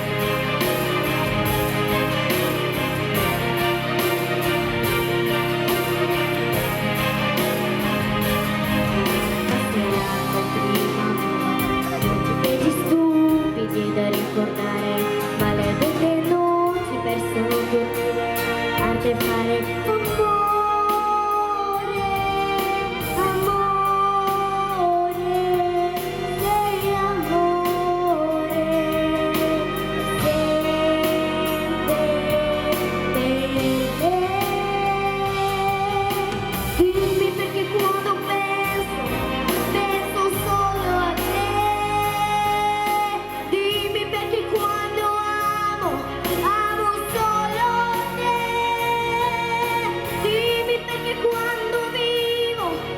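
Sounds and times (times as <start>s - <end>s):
instrumental backing music: 0.0s - 52.9s
woman singing: 0.0s - 52.9s.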